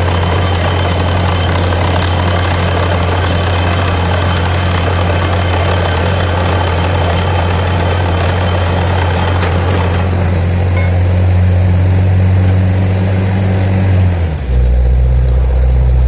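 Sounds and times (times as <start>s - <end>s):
drilling rig running: 0.0s - 16.0s.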